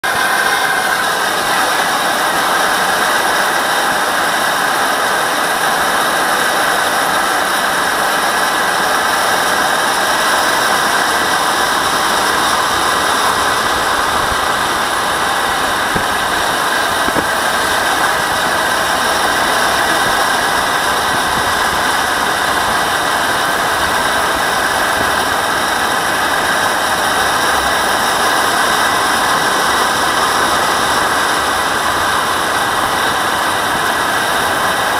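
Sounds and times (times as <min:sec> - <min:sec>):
jet turbine whine: 0:00.0 - 0:34.9.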